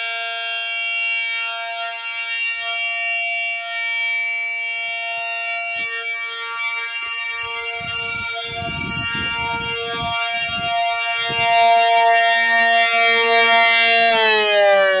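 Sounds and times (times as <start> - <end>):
electric siren steady tone: 0.0 - 15.0.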